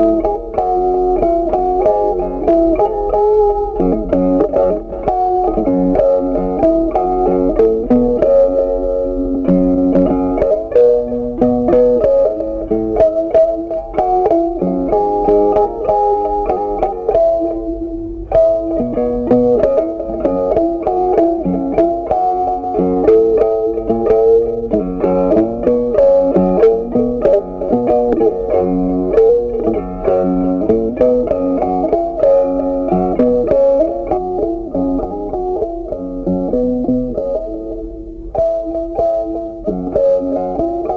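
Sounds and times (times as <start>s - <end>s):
plucked guitar melody: 0.0s - 40.9s.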